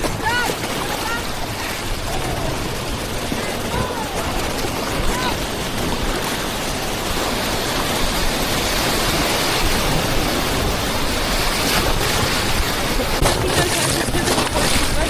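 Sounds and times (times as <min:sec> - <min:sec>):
river whitewater rushing: 0:00.0 - 0:15.0.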